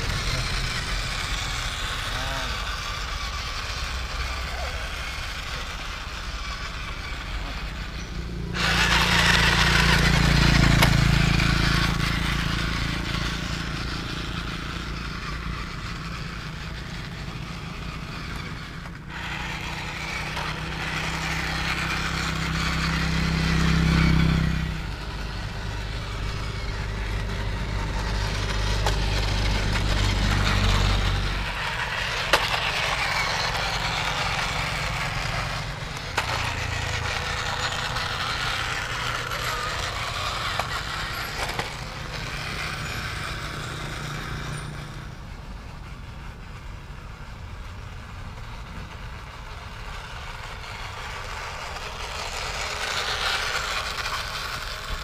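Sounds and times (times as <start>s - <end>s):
toy tank motor droning: 0.0s - 55.0s.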